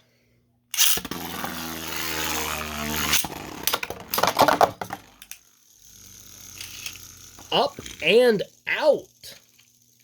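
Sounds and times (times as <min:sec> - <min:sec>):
spinning tops whirring: 0:00.7 - 0:10.0.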